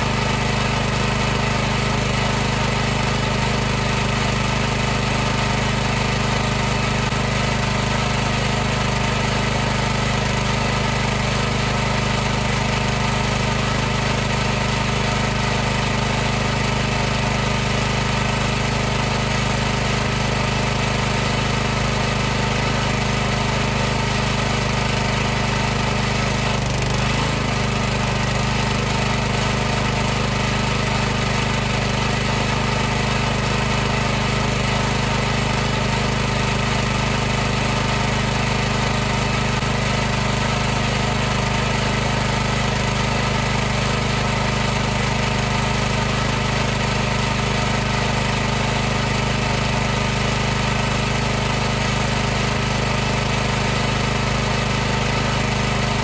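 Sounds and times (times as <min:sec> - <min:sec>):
pressure washer running: 0:00.0 - 0:56.0.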